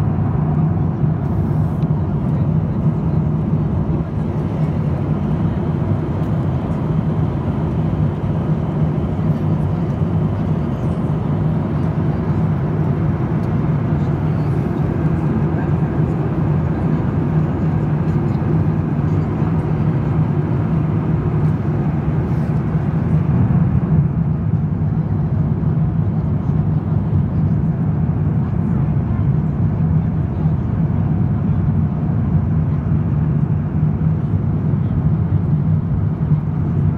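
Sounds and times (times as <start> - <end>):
jet engines droning: 0.0 - 36.9.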